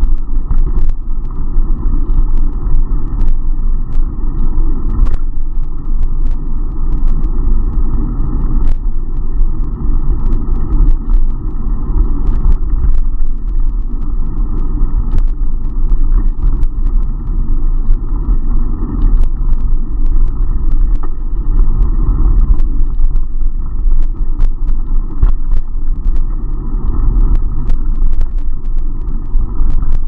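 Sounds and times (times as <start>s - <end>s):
wind and road rumble: 0.0s - 30.0s.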